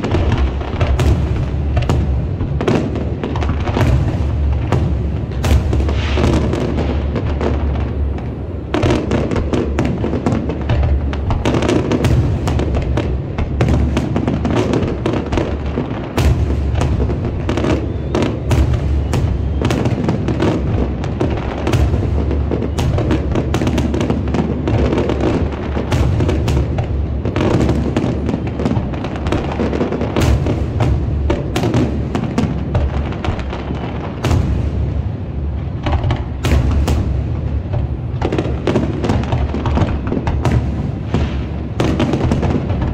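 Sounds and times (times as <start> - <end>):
fireworks booming and crackling: 0.0 - 42.9.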